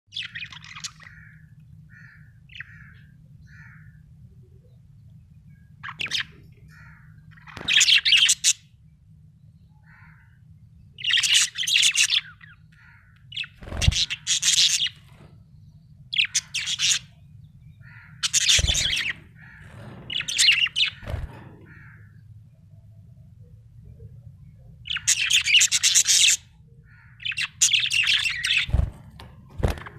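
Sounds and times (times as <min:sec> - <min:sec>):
faint low hum: 0:00.1 - 0:29.9.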